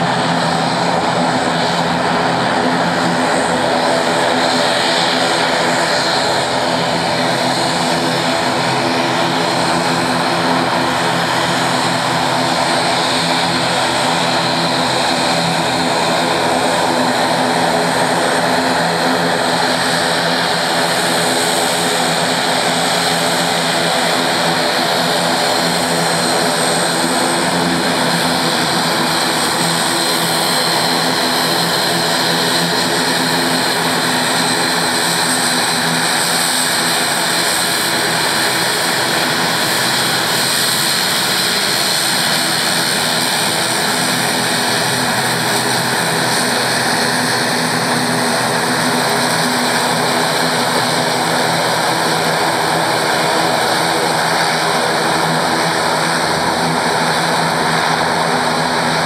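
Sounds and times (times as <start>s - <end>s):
turboprop engines running: 0.0s - 59.0s.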